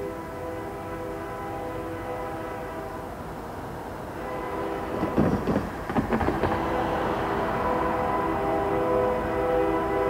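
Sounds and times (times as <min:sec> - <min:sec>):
locomotive air horn: 0:00.0 - 0:03.1, 0:04.2 - 0:05.5, 0:06.3 - 0:10.0
train rumble: 0:00.0 - 0:10.0.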